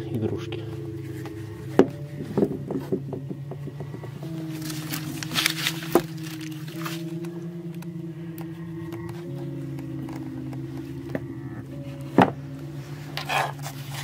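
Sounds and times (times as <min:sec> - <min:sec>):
droning background music: 0:00.0 - 0:14.0
rustle: 0:00.4 - 0:14.0.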